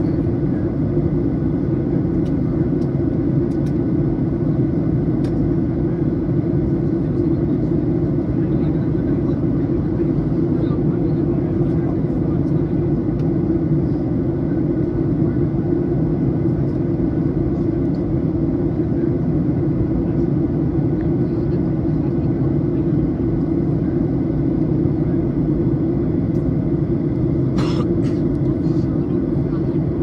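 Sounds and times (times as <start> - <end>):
airplane cabin drone: 0.0 - 30.0.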